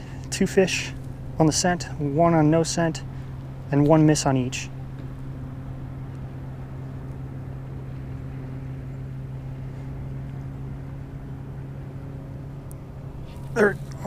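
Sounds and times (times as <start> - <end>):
trolling motor humming: 0.0 - 14.0.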